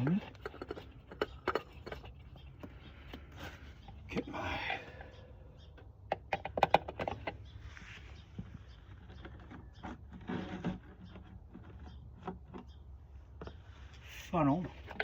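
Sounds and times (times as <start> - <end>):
sharp handling clicks and knocks: 0.0 - 4.3, 5.7 - 7.6, 8.2 - 13.7, 14.6 - 15.0.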